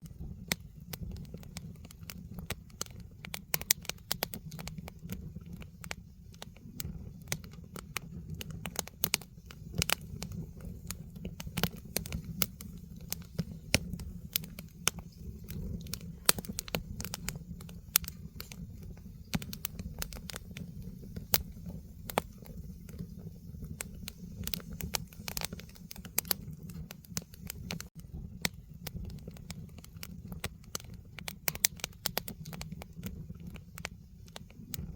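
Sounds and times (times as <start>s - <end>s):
firewood crackling and popping: 0.0s - 34.9s
low rumble of fire: 0.0s - 34.9s.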